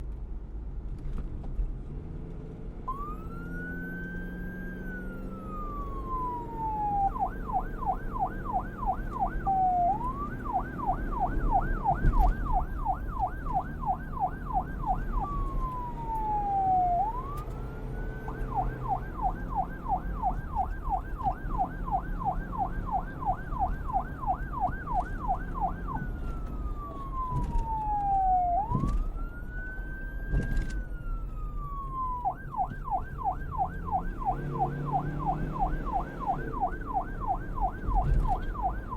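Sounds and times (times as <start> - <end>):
low traffic rumble: 0.0 - 38.9
police car siren: 2.8 - 38.9.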